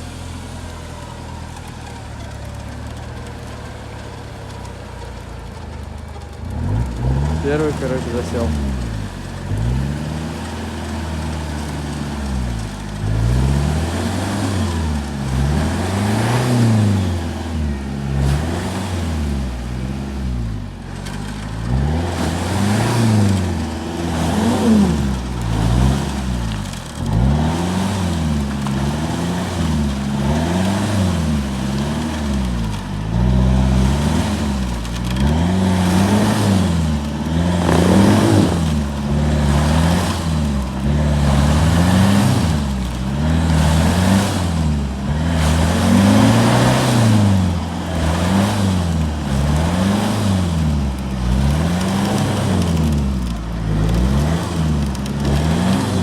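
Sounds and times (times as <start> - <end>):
engine revving: 6.0 - 56.0.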